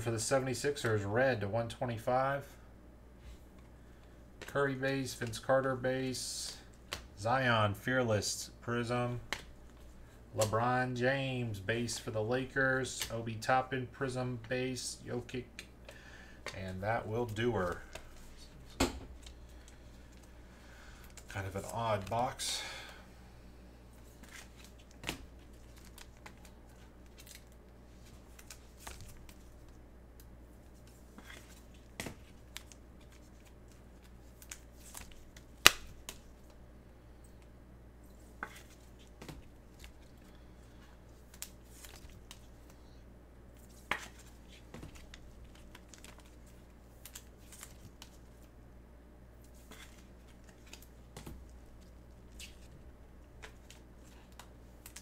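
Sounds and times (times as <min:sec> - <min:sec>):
faint low hum: 0:00.0 - 0:55.0
gloved hands handling cards: 0:03.3 - 0:07.3, 0:11.8 - 0:23.0, 0:23.9 - 0:36.6, 0:38.1 - 0:48.6, 0:49.4 - 0:55.0.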